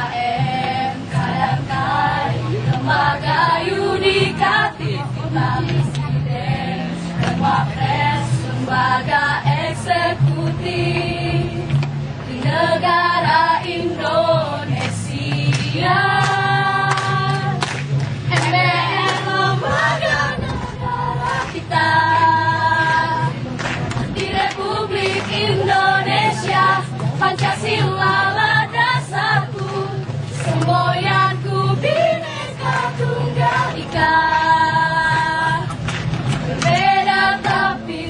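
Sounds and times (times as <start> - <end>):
choir singing: 0.0 - 11.7, 12.3 - 17.6, 18.3 - 23.4, 24.2 - 35.7, 36.6 - 38.0.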